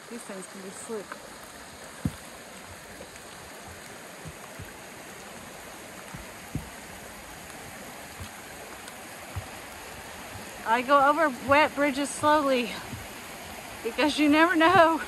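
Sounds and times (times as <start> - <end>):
stream running: 0.0 - 15.0
footsteps on wet bridge: 0.1 - 15.0.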